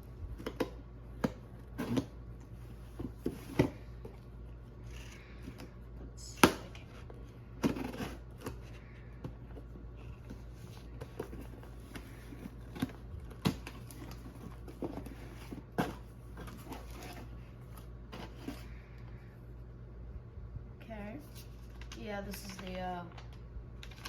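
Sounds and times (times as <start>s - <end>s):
cardboard and paper rustling: 0.2s - 18.9s, 21.2s - 24.0s.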